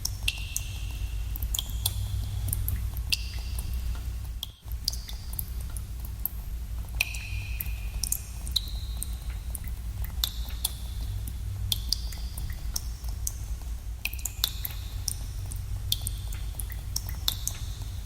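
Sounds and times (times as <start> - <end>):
low rumble of cave ambience: 0.0 - 18.0
water drops plinking into pools: 0.0 - 18.0.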